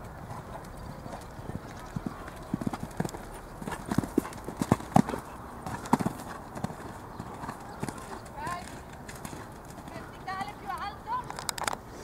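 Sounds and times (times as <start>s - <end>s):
horse hooves cantering on sand: 0.0s - 11.3s.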